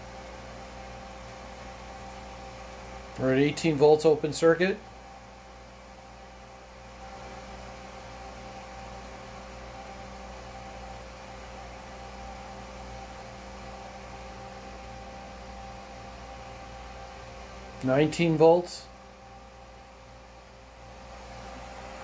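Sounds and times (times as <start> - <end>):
cooling fan whirring with tones: 0.0 - 22.0.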